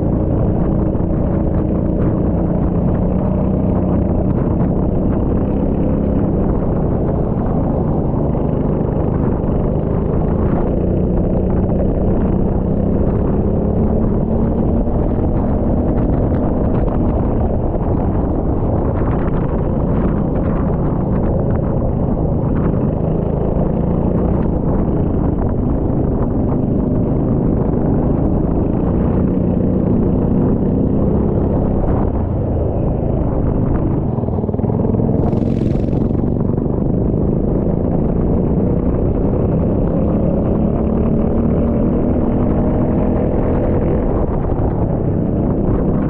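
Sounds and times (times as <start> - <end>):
kart engine running: 0.0 - 45.9.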